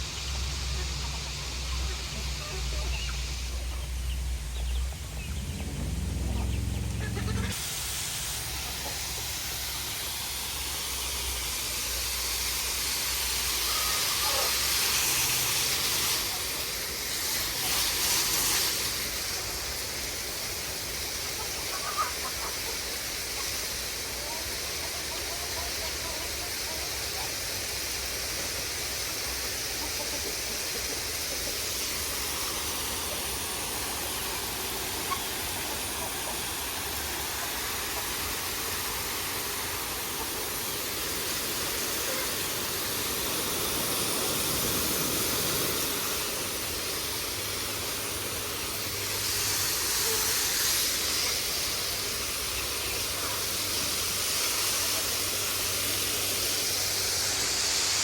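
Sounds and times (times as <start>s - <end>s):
garden hose spraying water: 0.0s - 58.0s.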